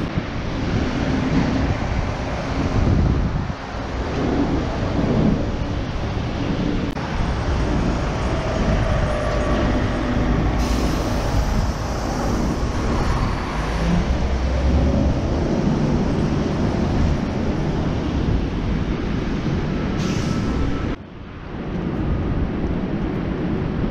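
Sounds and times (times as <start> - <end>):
city street rumble: 0.0 - 23.9.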